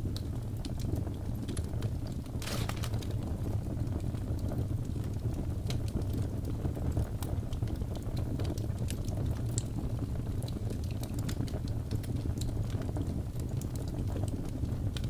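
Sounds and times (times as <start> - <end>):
logs burning with crackles: 0.0 - 15.0.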